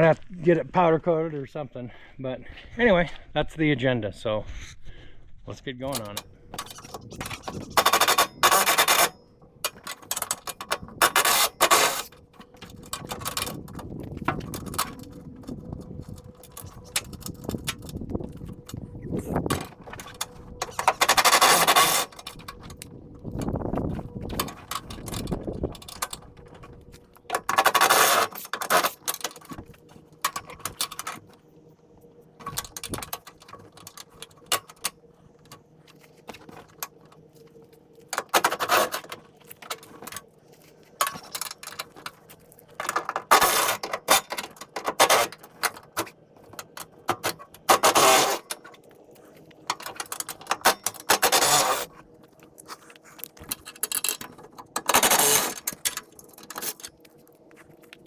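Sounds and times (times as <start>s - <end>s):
metal scraping: 5.9s - 31.4s, 32.3s - 57.8s.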